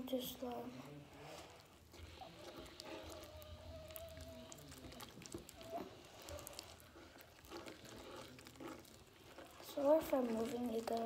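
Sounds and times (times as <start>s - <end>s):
slime squelching and clicking: 1.3s - 11.0s.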